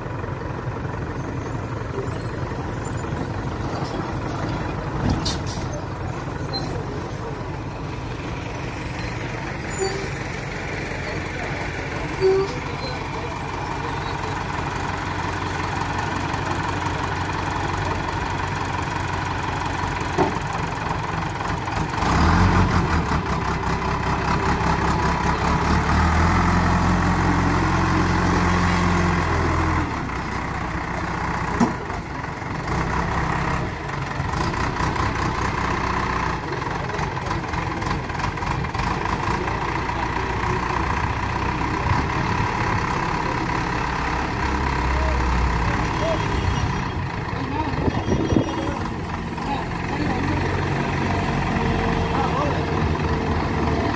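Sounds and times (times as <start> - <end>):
diesel engine revving: 0.0 - 53.9.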